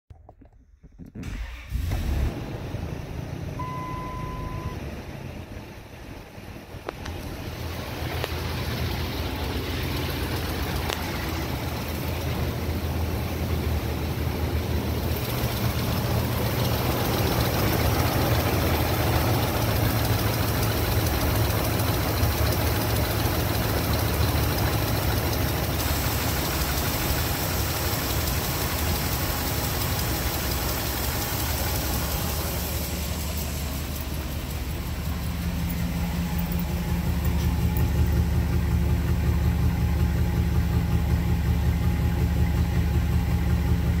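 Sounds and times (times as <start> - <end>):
engine idling: 0.2 - 44.0
exhaust pulsing: 0.2 - 44.0.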